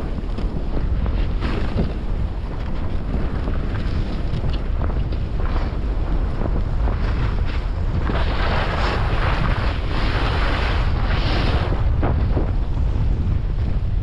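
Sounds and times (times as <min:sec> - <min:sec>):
skis scraping over snow: 0:00.0 - 0:14.0
wind buffeting microphone: 0:00.0 - 0:14.0.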